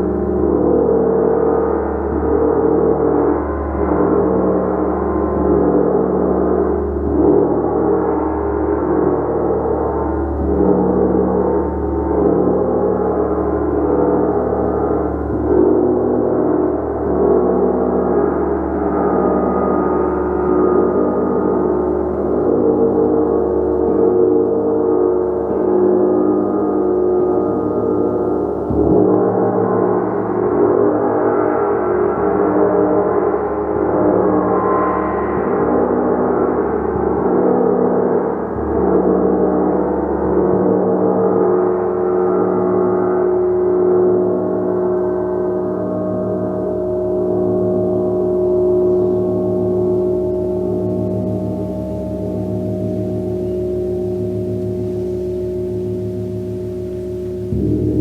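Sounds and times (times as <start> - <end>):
gong played continuously: 0.0 - 58.0.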